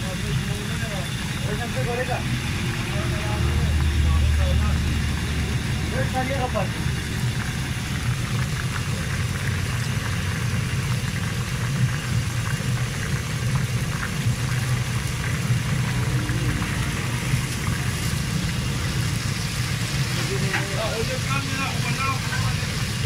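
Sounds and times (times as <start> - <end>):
burner flame rumbling: 0.0 - 23.0
oil sizzling: 0.0 - 23.0.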